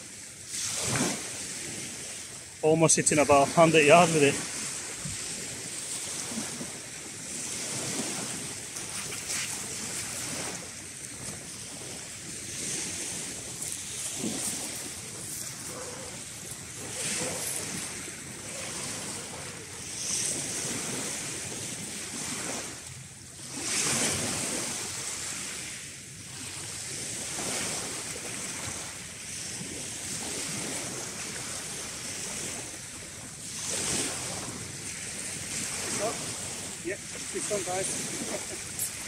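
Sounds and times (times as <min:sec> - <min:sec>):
waves washing over shingle: 0:00.0 - 0:39.0.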